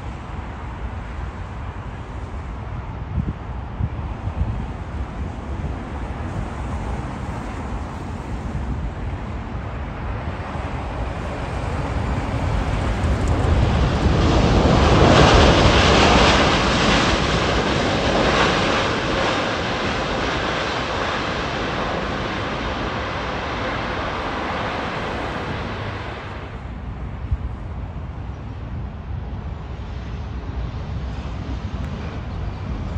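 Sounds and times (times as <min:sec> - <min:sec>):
jet airliner engine noise: 0:00.0 - 0:32.9
wind buffeting microphone: 0:00.0 - 0:32.9.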